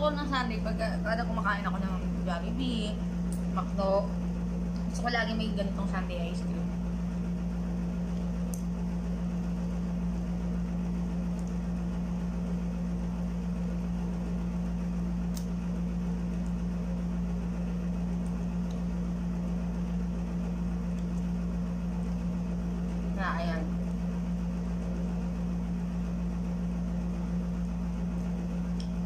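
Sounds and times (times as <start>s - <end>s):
air conditioner humming: 0.0s - 29.0s.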